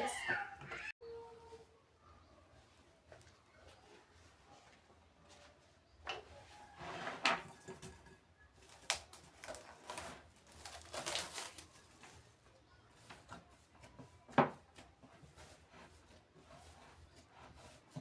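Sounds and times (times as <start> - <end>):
rustle of handling: 2.5 - 18.0.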